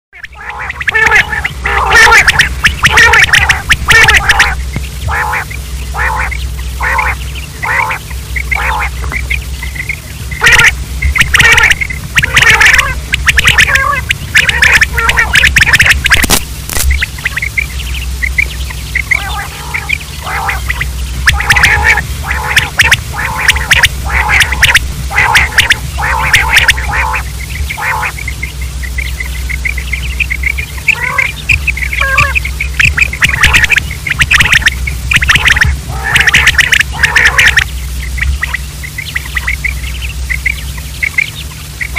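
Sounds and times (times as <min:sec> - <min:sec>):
quail calling: 0:00.2 - 0:41.9
steady low hum: 0:00.2 - 0:41.9.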